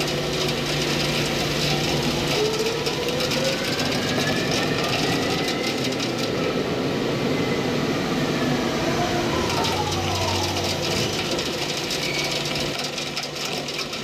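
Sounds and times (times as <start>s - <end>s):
crackling metal chips: 0.0s - 6.6s, 9.3s - 14.0s
faint spindle whine: 0.0s - 14.0s
lathe machining noise: 0.0s - 14.0s.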